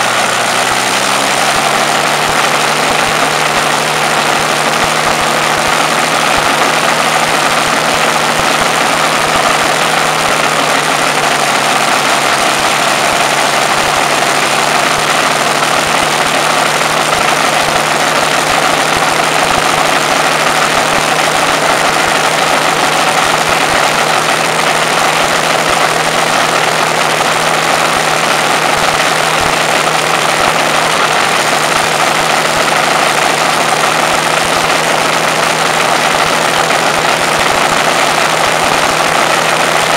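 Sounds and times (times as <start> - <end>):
aero engine droning: 0.0 - 39.9.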